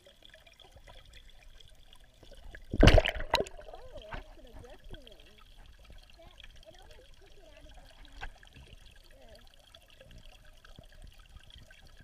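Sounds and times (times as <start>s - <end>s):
muffled underwater wash: 0.0s - 12.0s.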